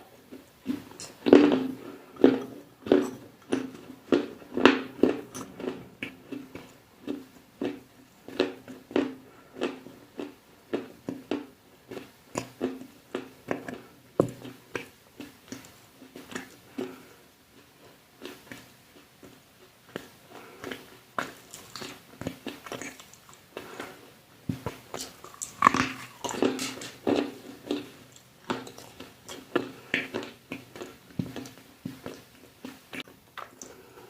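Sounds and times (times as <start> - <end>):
crunchy chewing: 0.3 - 34.0.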